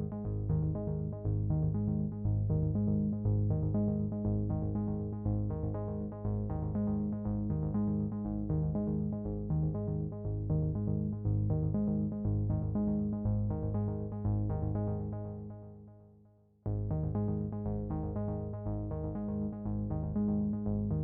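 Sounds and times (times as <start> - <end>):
soft synthesizer and keyboard tune: 0.0 - 15.8, 16.7 - 21.0.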